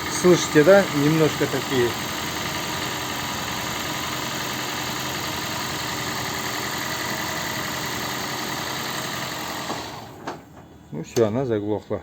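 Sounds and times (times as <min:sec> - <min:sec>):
car engine idling with rattle: 0:00.0 - 0:10.1.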